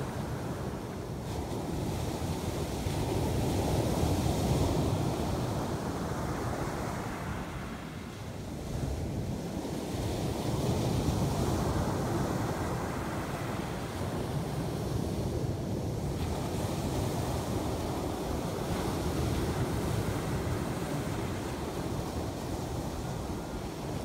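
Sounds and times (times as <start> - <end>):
surf waves breaking on beach: 0.0 - 24.0.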